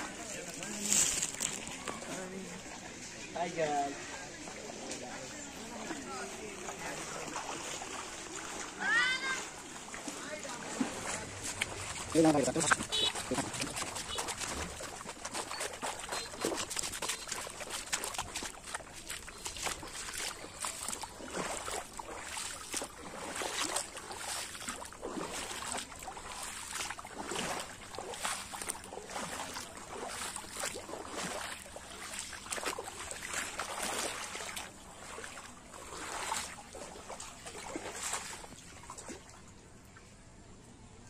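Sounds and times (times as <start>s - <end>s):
footsteps wading through water: 0.0s - 40.2s.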